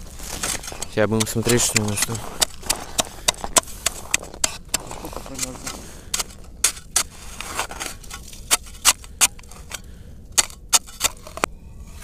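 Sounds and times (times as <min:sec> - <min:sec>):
hatchet chopping ice: 0:00.4 - 0:09.8, 0:10.4 - 0:11.3.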